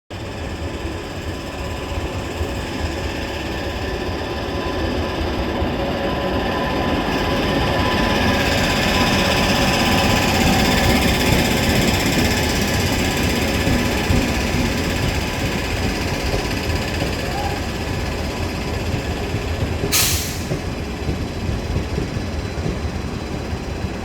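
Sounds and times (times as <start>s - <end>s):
electric locomotive approaching: 0.2s - 24.0s.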